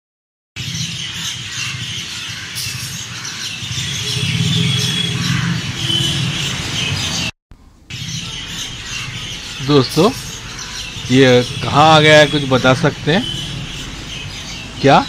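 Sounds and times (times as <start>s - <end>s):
birds chirping: 0.6s - 7.3s, 7.9s - 15.0s.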